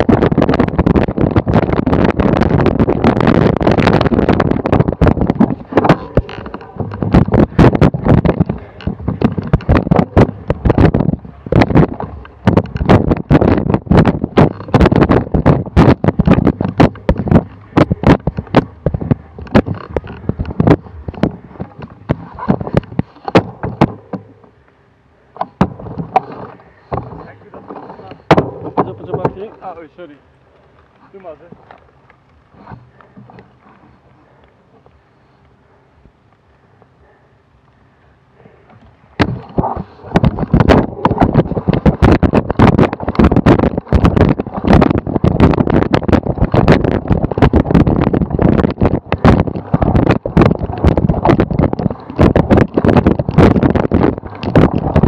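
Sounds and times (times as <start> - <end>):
bike knocking and rattling: 0.0 - 24.4, 25.4 - 30.0, 39.2 - 55.0
wind on microphone: 0.0 - 24.6, 25.4 - 55.0
low tyre rumble: 0.0 - 55.0.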